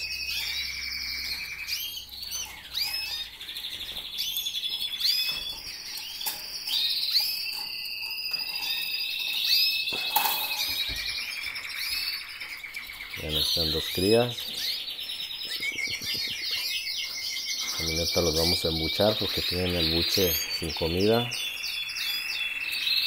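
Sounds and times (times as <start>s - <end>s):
canaries singing trills: 0.0s - 23.0s.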